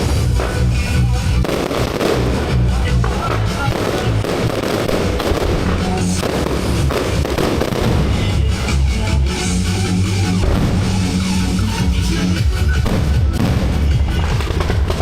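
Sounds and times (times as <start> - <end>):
fireworks deep thuds: 0.0 - 9.2, 10.3 - 15.0
fireworks crackling: 0.0 - 15.0
music playing: 0.0 - 15.0.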